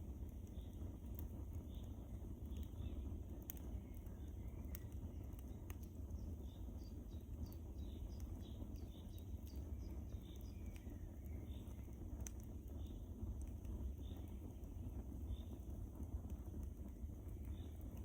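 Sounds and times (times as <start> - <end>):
fire pops and snaps: 0.0 - 18.0
wood fire crackling: 0.0 - 18.0.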